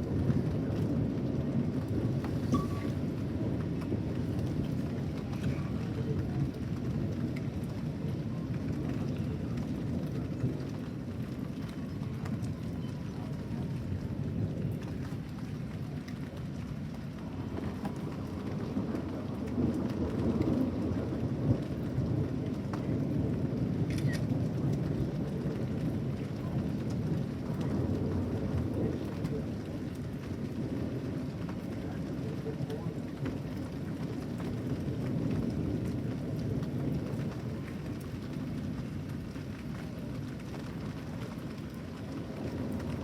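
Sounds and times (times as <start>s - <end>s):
rain falling: 0.0s - 43.0s
thunder rumbling: 0.0s - 43.0s.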